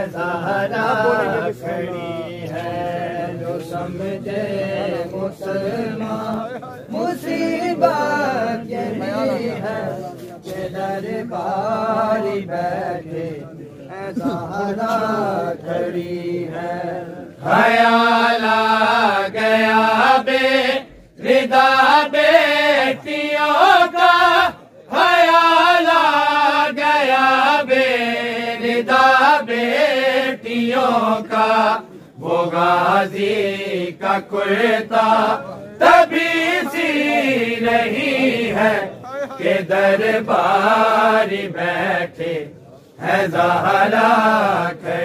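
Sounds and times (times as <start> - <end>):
men chanting a lament: 0.0 - 45.0.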